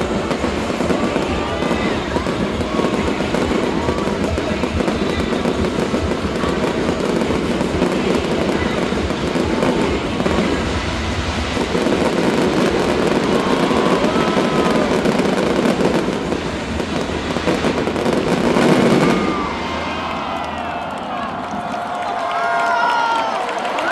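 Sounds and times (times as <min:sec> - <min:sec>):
fireworks crackling and banging: 0:00.0 - 0:23.9.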